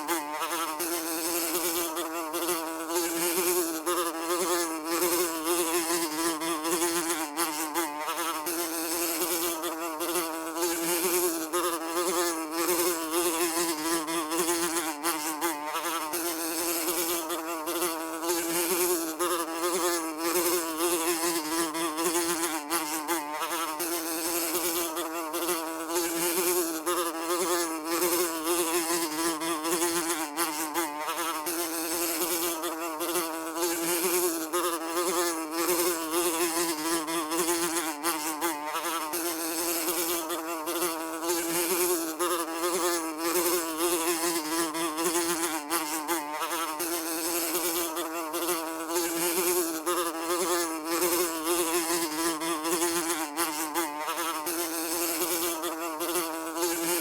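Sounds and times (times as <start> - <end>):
housefly buzzing: 0.0 - 57.0.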